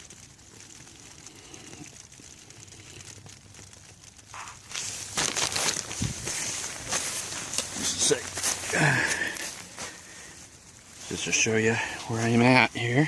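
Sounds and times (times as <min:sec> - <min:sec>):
rain pattering: 0:00.0 - 0:13.0
rustling and crinkling: 0:00.0 - 0:13.0.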